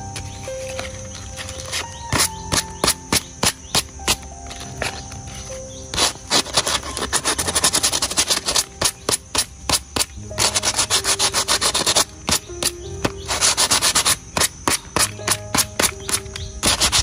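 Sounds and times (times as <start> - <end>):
rubbing strokes on a coconut: 0.5 - 17.0.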